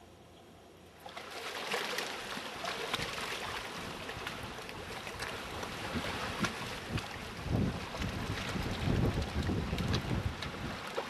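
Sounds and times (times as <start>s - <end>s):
water lapping at shore: 0.8s - 11.0s.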